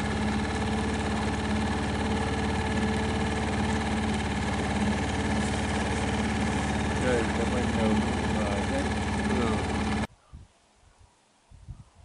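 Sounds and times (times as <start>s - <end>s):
boat engine running: 0.0s - 10.1s.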